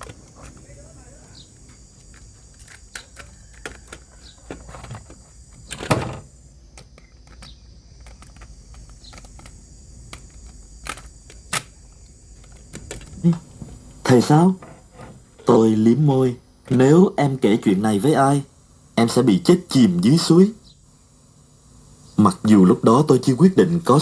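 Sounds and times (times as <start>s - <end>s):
faint hum and hiss: 0.0s - 24.0s.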